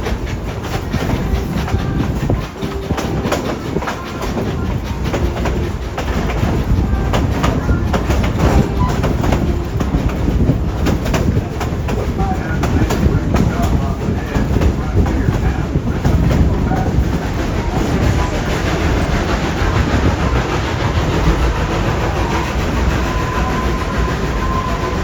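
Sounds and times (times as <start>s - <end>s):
train cars rumbling: 0.0s - 25.0s
wheels clacking over rail joints: 0.0s - 25.0s.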